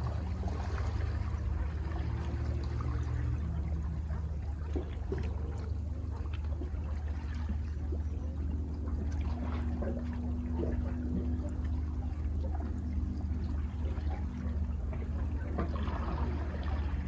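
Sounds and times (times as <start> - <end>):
low rumble of surf: 0.0 - 17.0
water trickling among rocks: 0.0 - 17.0.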